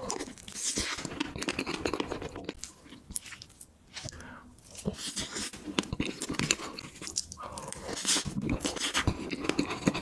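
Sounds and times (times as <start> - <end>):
person chewing and lip-smacking: 0.0 - 10.0.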